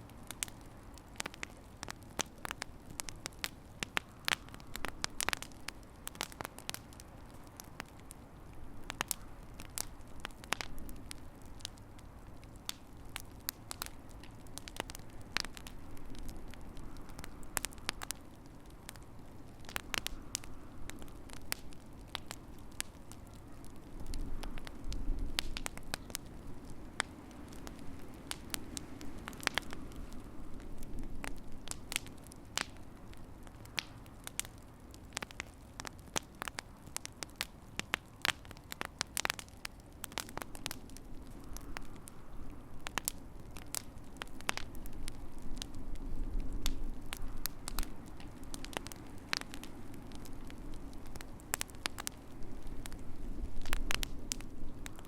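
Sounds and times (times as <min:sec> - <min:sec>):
low rumble of flames: 0:00.0 - 0:55.0
wood fire crackling: 0:00.0 - 0:55.0
sharp pops and snaps: 0:00.2 - 0:08.2, 0:08.8 - 0:55.0.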